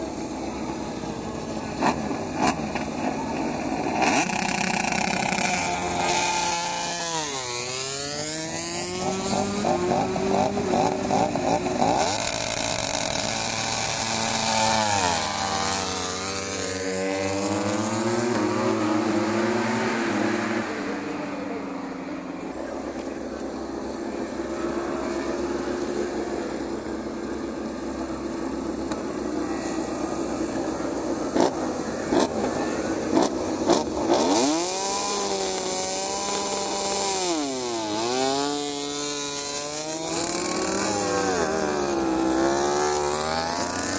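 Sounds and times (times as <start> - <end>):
race bikes revving and passing: 0.0 - 43.9.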